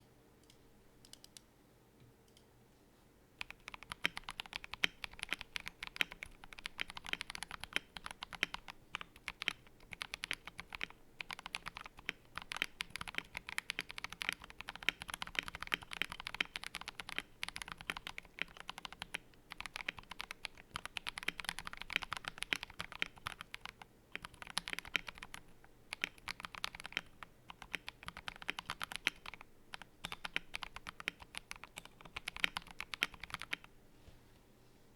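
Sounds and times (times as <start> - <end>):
mechanical keyboard typing: 3.4 - 33.7.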